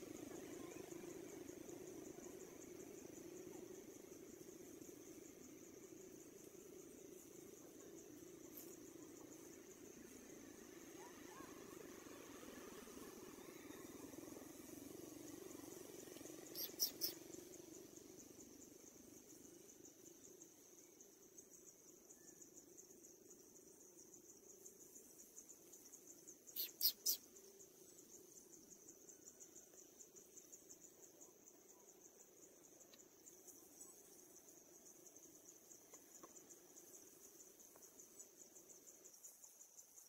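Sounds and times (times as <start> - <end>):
insect trill: 0.0 - 40.0.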